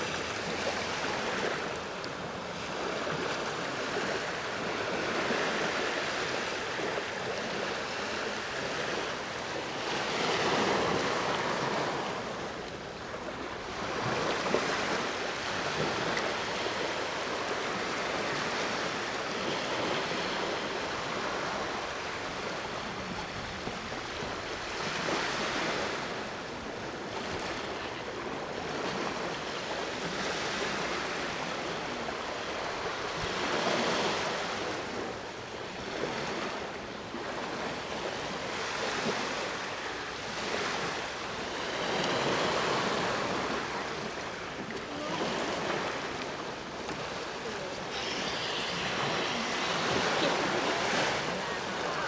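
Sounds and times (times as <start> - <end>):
sea waves breaking on shore: 0.0 - 52.0.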